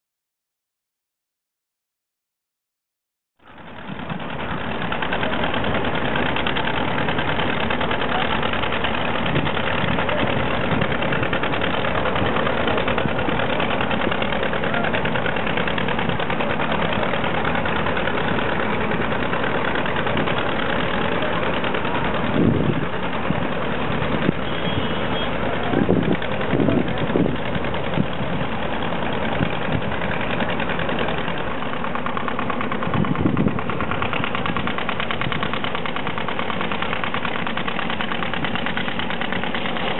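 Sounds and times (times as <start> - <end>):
diesel barge engines chugging: 3.4 - 39.9.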